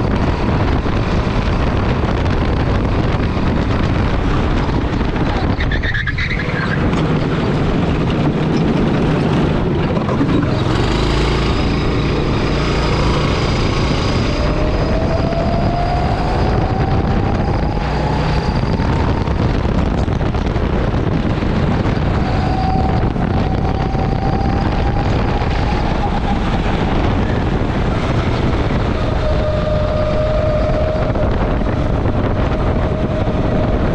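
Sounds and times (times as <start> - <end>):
go-kart engine running: 0.0 - 33.9
wind rumble on microphone: 0.0 - 33.9.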